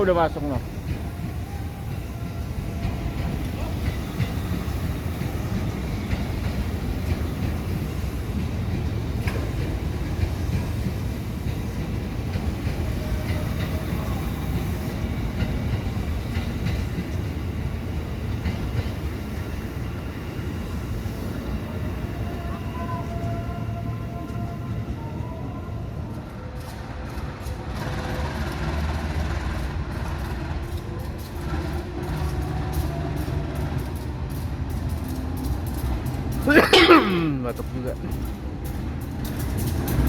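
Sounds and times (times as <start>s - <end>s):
wheels clicking on rails: 0.0s - 21.6s, 26.1s - 36.5s, 37.5s - 40.0s
train rumbling: 0.0s - 40.0s.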